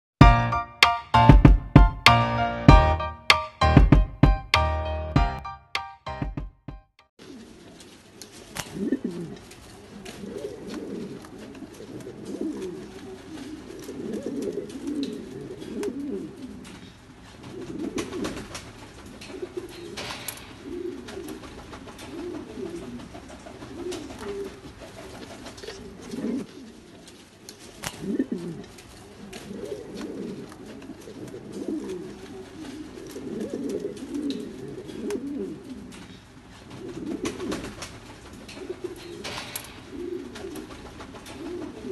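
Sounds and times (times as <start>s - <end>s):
pigeon cooing: 7.2s - 41.9s.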